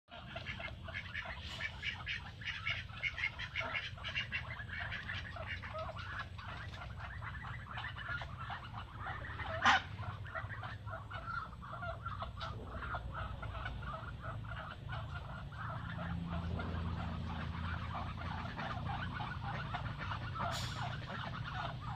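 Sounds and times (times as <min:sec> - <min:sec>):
ducks foraging: 0:00.1 - 0:21.9
steady low hum: 0:00.1 - 0:21.9.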